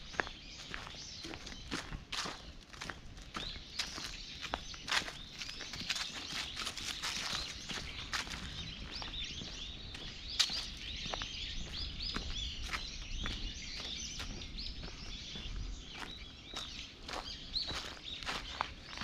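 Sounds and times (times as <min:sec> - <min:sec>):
footsteps on dry leaves: 0:00.0 - 0:19.0
small birds chirping: 0:00.0 - 0:19.0.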